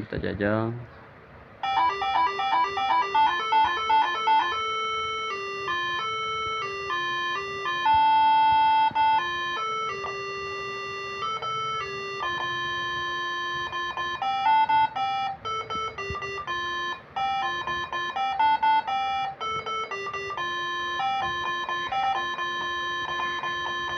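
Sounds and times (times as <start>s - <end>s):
air horn melody: 1.6s - 23.9s.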